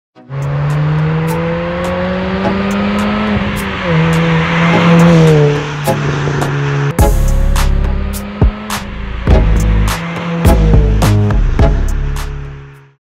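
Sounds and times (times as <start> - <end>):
car engine accelerating: 0.2 - 13.0.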